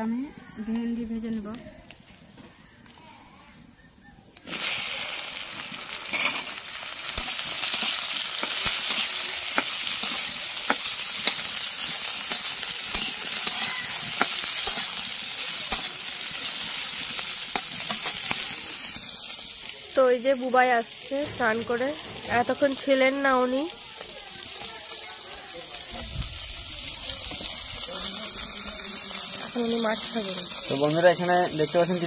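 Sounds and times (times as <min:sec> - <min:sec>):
okra sizzling in hot oil: 0:04.4 - 0:32.0.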